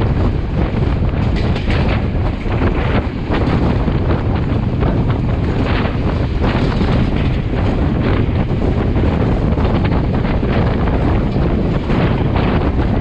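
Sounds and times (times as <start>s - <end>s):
train running on rails: 0.0s - 13.0s
wind buffeting microphone: 0.0s - 13.0s.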